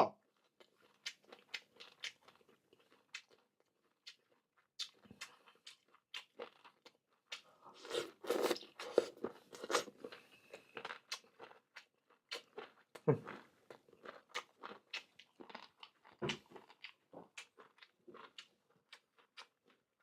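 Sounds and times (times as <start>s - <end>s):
person chewing crispy food: 0.2s - 20.0s.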